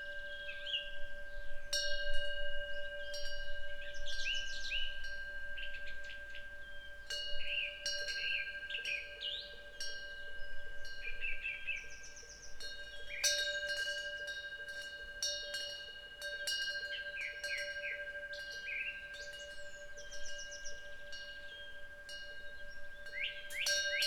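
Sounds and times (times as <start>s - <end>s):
wind bells chiming: 0.0s - 24.0s.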